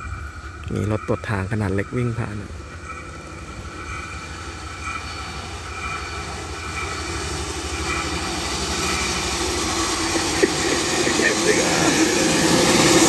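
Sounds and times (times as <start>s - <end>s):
rail trolley engine pulsing: 0.0s - 13.0s.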